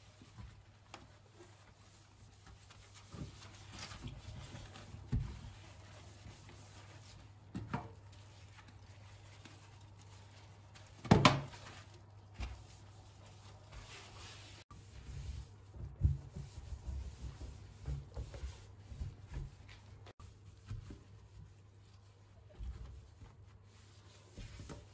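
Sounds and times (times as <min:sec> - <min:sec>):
wet cloth scrubbing metal sink: 0:00.0 - 0:24.9.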